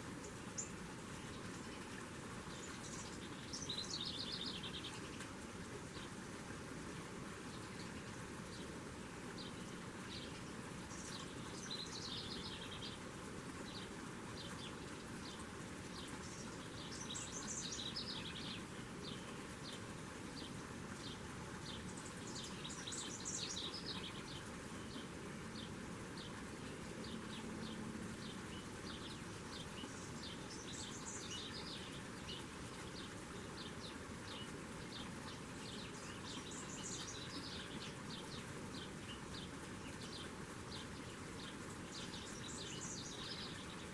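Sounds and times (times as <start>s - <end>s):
steady outdoor hiss: 0.0s - 43.9s
small birds chirping: 0.2s - 43.9s.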